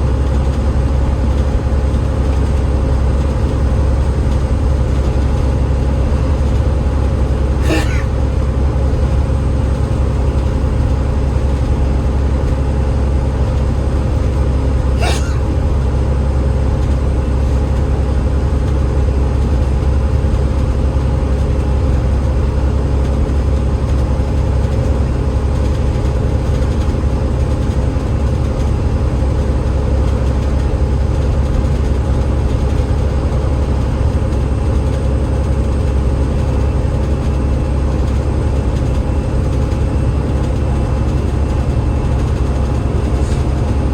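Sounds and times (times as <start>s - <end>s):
bus diesel engine drone: 0.0s - 43.9s.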